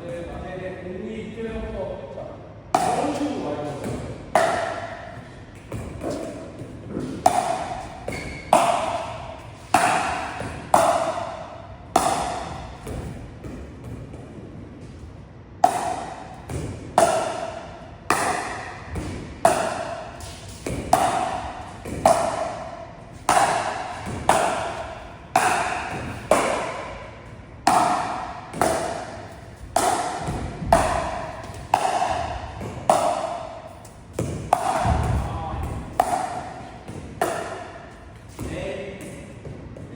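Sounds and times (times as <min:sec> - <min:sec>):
paddles hitting plastic ball: 0:02.8 - 0:14.3, 0:15.6 - 0:39.9.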